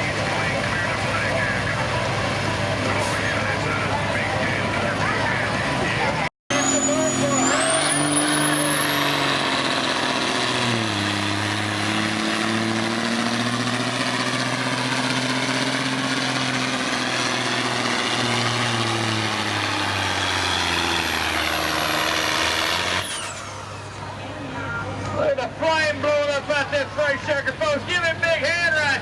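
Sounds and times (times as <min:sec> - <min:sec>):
truck diesel engine under load: 0:00.0 - 0:29.0.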